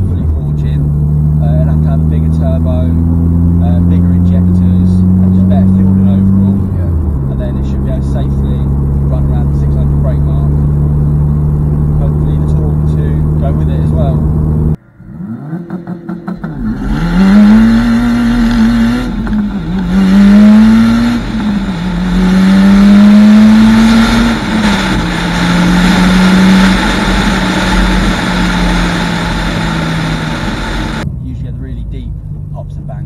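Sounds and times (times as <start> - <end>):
car engine accelerating hard: 0.0 - 31.4.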